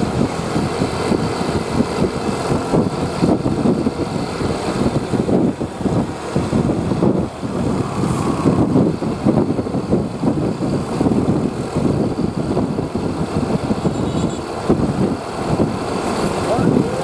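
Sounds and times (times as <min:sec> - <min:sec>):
bus diesel engine rumble: 0:00.0 - 0:17.0.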